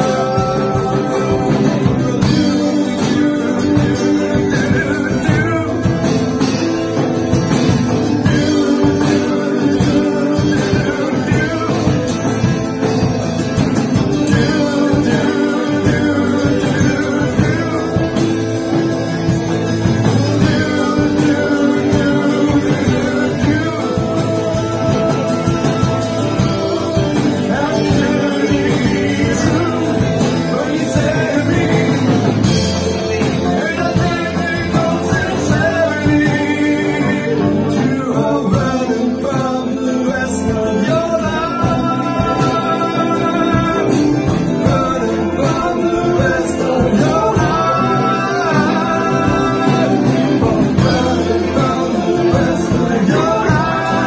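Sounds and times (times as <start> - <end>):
acoustic guitar: 0.0 - 54.0
keyboard: 0.0 - 54.0
man singing: 0.0 - 54.0.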